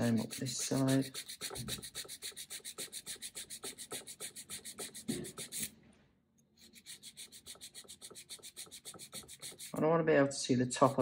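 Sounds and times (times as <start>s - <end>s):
nail file rasping on nail: 0.0s - 5.7s, 6.6s - 9.8s.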